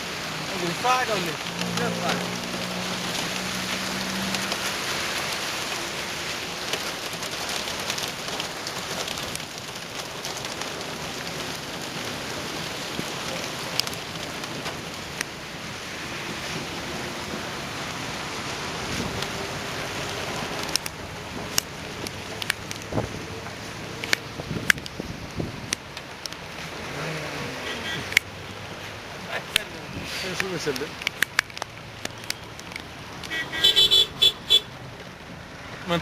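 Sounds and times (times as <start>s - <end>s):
heavy rain on a car: 0.0s - 36.0s.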